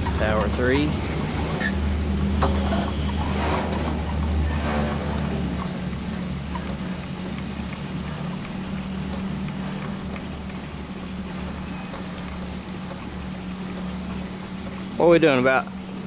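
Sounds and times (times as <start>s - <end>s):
cable car low rumble: 0.0s - 16.0s
constant hum: 0.0s - 16.0s.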